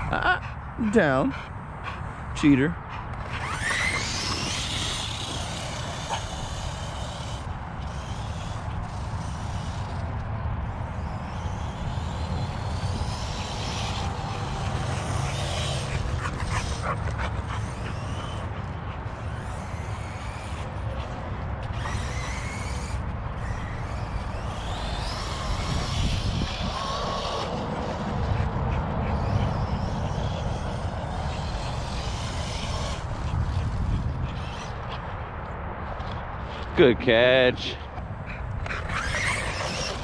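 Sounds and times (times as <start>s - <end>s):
rc truck motor whining: 3.1s - 34.9s, 38.6s - 40.0s.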